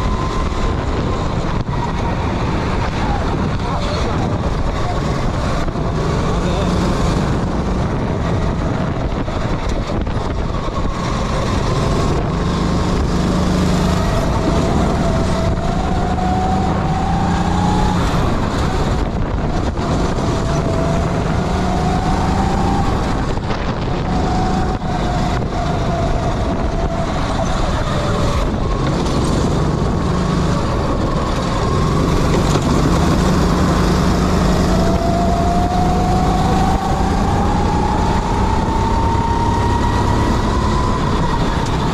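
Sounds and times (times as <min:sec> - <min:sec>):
kart engine accelerating: 0:00.0 - 0:41.9
road and wind noise: 0:00.0 - 0:41.9.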